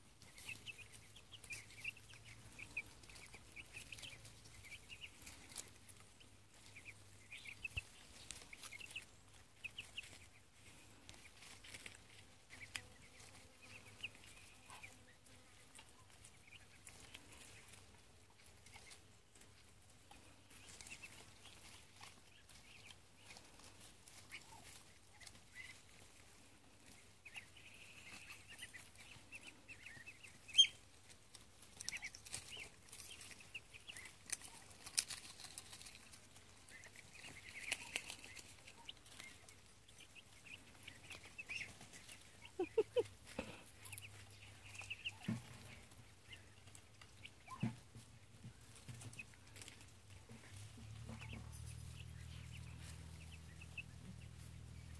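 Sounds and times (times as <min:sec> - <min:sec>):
chicks and ducklings peeping: 0:00.0 - 0:54.9.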